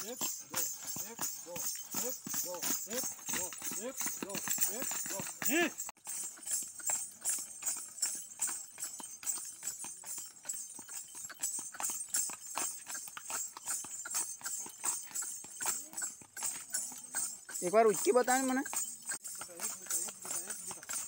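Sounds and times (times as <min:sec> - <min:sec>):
bells jingling: 0:00.0 - 0:21.0
horse hooves on gravel: 0:00.0 - 0:21.0.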